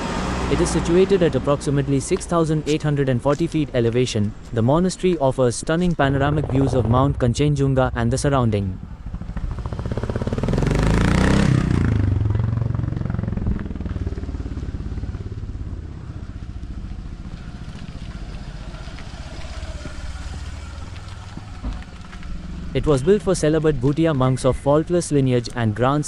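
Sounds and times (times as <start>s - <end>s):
vehicle engine passing: 0.0s - 4.4s, 5.8s - 26.0s.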